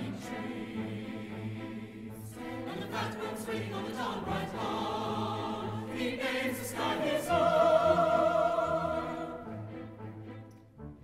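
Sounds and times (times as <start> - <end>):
choir singing: 0.0 - 10.9.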